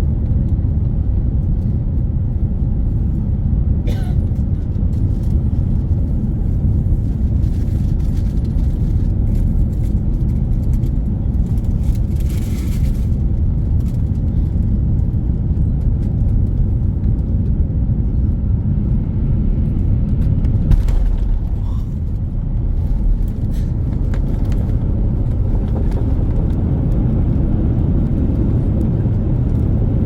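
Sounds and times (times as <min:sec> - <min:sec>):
airplane cabin engine rumble: 0:00.0 - 0:30.0.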